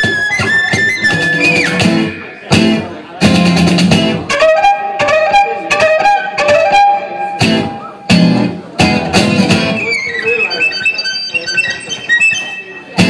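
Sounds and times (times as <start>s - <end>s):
backing track: 0.0s - 13.0s
fast plucked guitar: 0.0s - 13.0s.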